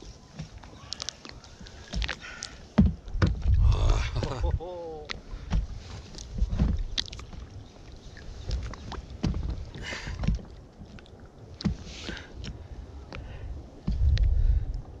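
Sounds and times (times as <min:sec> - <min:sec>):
water splashing: 0:00.0 - 0:12.7
water lapping against boat hull: 0:00.0 - 0:15.0
wind rumble on microphone: 0:01.2 - 0:15.0.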